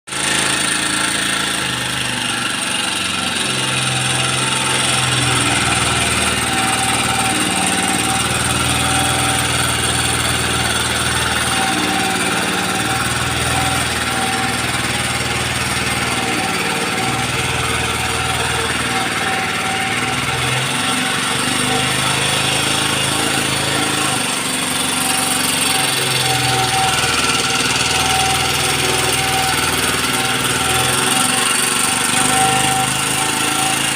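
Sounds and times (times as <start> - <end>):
engine-driven machinery running: 0.1 - 33.9.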